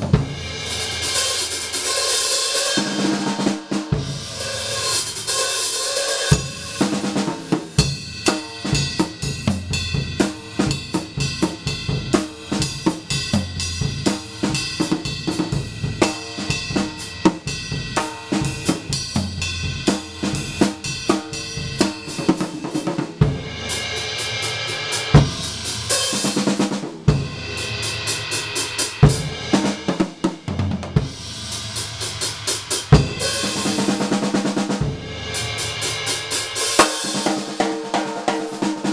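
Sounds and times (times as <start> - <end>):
crashing cymbals: 0.0 - 30.4, 31.0 - 38.9
drum solo: 0.0 - 38.9.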